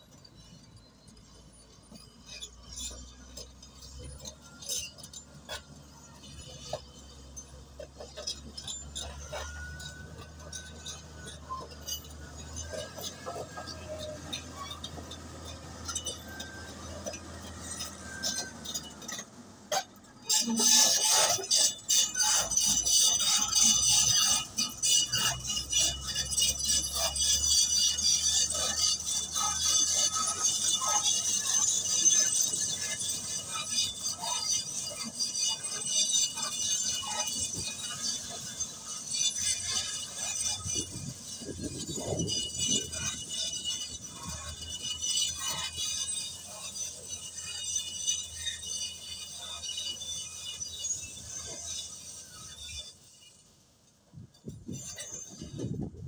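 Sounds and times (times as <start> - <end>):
bulldozer tracks clanking on rock: 0.0 - 56.0.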